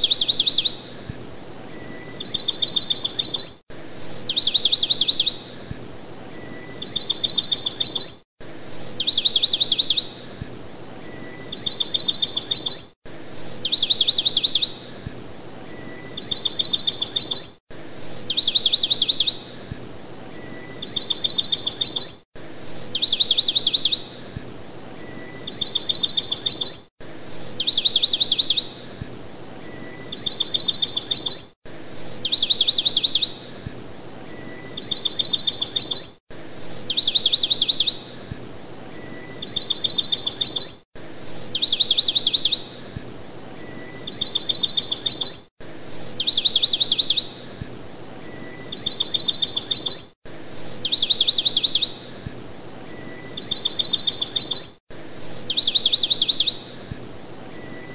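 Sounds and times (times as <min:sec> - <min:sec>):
songbird trilling: 0:00.0 - 0:00.8, 0:01.7 - 0:05.5, 0:06.2 - 0:10.2, 0:10.9 - 0:14.8, 0:15.6 - 0:19.4, 0:20.2 - 0:24.1, 0:24.9 - 0:28.8, 0:29.6 - 0:33.4, 0:34.2 - 0:38.0, 0:38.8 - 0:42.7, 0:43.6 - 0:47.4, 0:48.2 - 0:52.1, 0:52.8 - 0:56.6.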